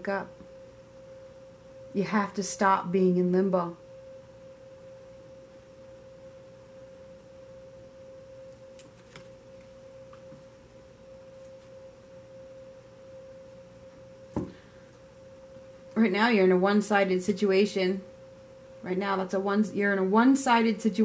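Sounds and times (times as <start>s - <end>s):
faint steady pure tone: 0.0s - 21.0s.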